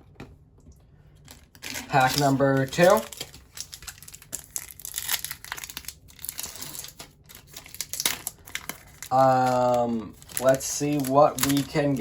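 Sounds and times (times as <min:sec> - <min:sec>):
card pack wrapper tearing: 0:01.3 - 0:12.0.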